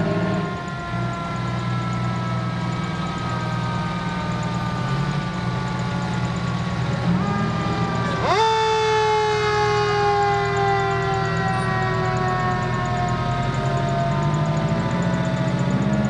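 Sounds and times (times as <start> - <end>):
fire truck siren: 0.0 - 16.0
truck engine running: 0.0 - 16.0.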